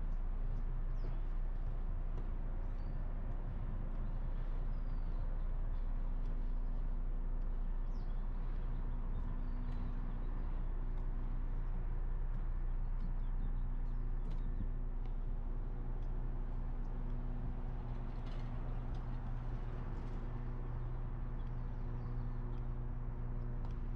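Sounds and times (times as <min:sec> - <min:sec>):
street traffic rumble: 0:00.2 - 0:23.9.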